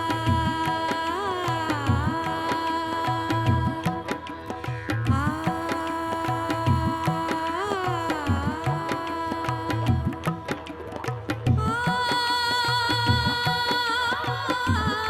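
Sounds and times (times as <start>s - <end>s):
tabla-like drum beat: 0.0s - 15.0s.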